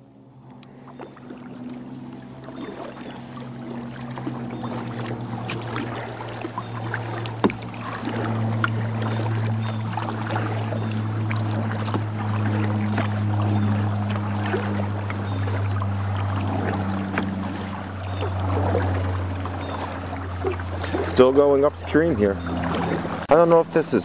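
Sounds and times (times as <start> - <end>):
kayak paddle splashing water: 0.4 - 24.0.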